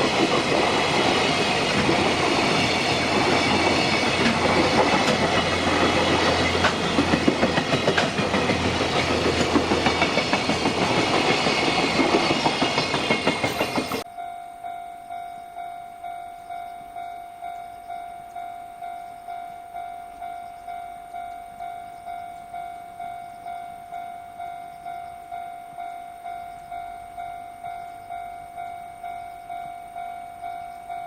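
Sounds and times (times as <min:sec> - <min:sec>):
level crossing warning bell: 0:00.0 - 0:31.0.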